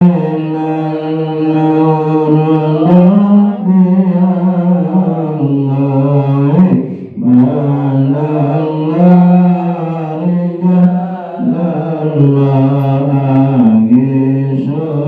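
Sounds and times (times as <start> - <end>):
person chanting a prayer: 0.0 - 15.0.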